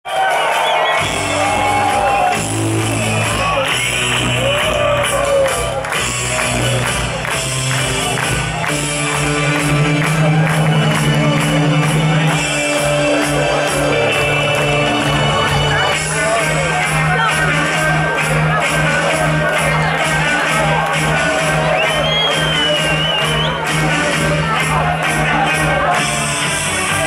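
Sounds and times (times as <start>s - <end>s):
crowd shouting and singing: 0.0s - 27.0s
drum beats: 0.0s - 27.0s
punk rock band playing: 0.2s - 27.0s.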